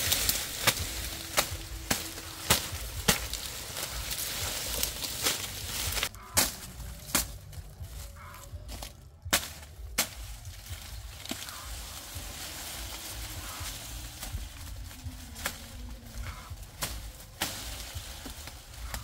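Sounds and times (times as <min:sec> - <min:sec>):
dry leaves rustling and crackling: 0:00.0 - 0:19.0.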